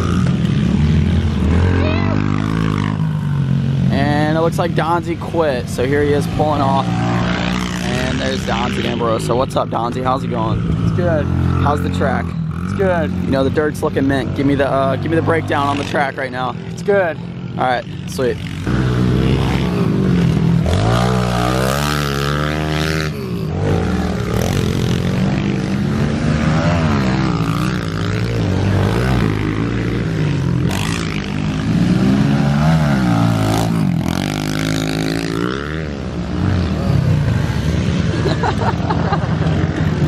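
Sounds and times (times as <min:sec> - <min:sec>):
pit bike engines revving: 0:00.0 - 0:40.0.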